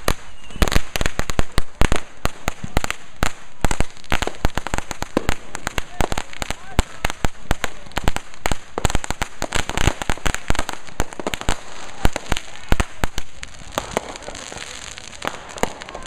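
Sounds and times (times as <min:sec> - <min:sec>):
fireworks bangs and cracks: 0:00.0 - 0:16.0
fireworks crackle: 0:00.0 - 0:16.0.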